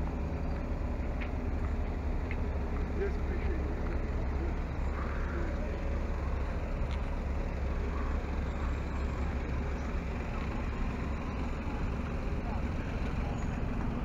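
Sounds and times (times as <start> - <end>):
faint distant voices: 2.7 - 14.0.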